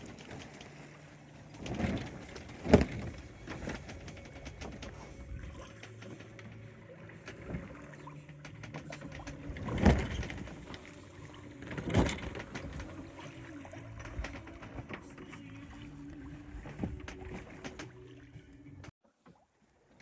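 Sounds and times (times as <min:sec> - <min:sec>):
water slapping along hull: 0:00.0 - 0:19.9.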